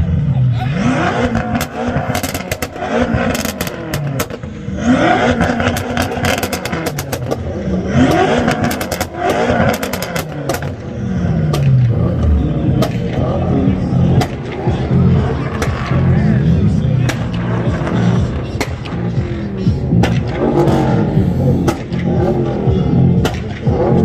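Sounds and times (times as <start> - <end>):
loud engine revving: 0.0 - 24.0
exhaust crackles and pops: 1.0 - 24.0.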